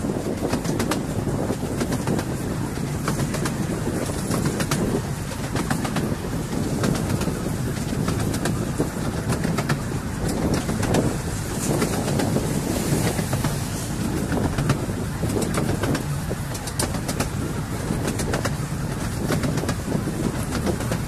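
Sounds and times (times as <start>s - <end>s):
train rumbling: 0.0s - 21.0s
wheels clicking over rail joints: 0.0s - 21.0s.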